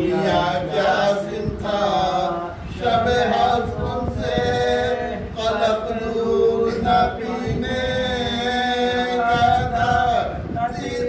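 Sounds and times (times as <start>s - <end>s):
male voices chanting: 0.0s - 11.0s.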